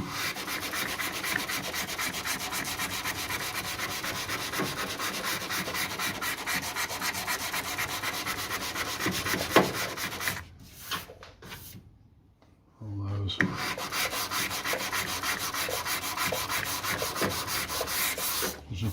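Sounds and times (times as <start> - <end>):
hand sanding with sandpaper: 0.0 - 11.8, 13.5 - 18.6.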